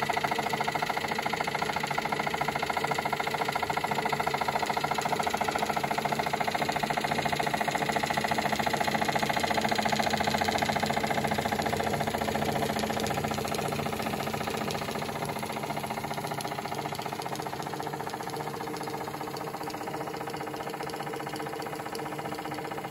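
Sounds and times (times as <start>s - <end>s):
toy steam engine running: 0.0s - 22.9s.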